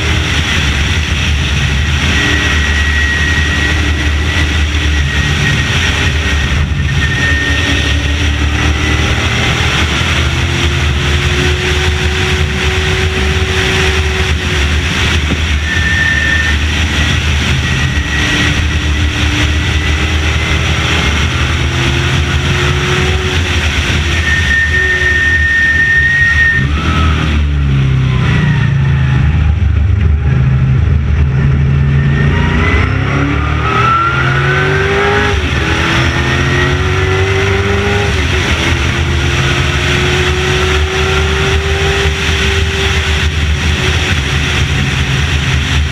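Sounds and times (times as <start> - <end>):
race car engine revving: 0.0 - 45.9.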